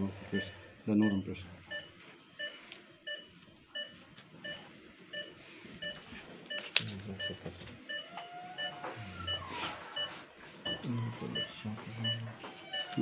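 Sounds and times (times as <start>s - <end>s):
patient monitor beeping: 0.0s - 13.0s.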